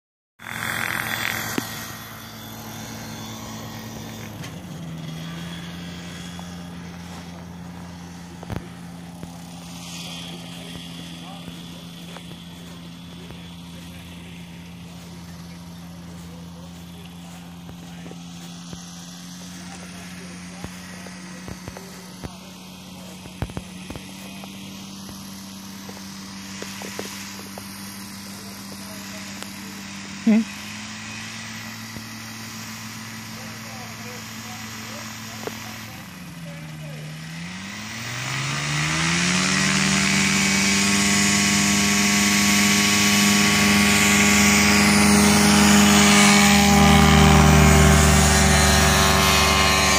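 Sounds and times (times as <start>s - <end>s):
model airplane engine droning: 0.4s - 49.9s.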